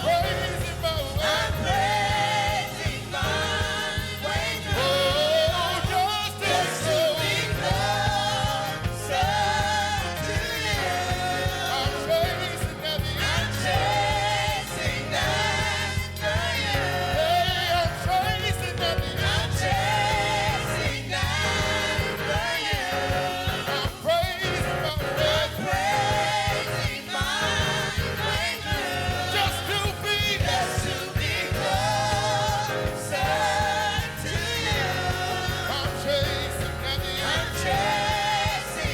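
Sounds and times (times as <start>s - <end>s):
band with steady bass line: 0.0s - 38.9s
voices singing with vibrato: 0.0s - 38.9s.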